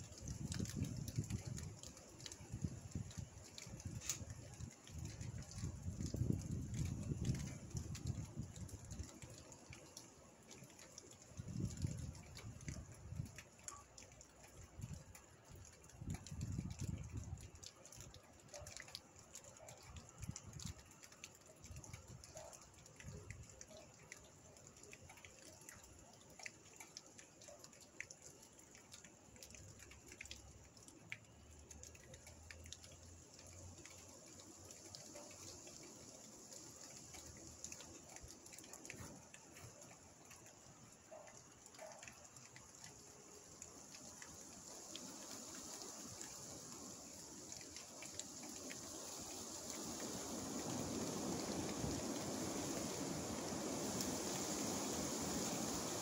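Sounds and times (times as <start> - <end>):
raindrops ticking and dripping: 0.0 - 56.0
soft hiss of rainfall: 0.0 - 56.0.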